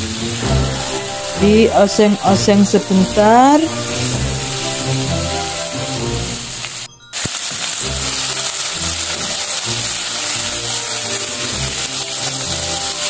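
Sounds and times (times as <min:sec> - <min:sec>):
background music: 0:00.0 - 0:13.0
meat sizzling in hot oil: 0:00.0 - 0:13.0.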